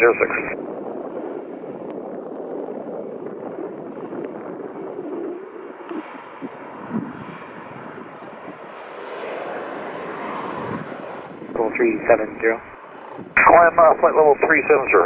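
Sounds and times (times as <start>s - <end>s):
airliner engines: 0.0s - 15.0s
wind buffeting microphone: 0.0s - 15.0s.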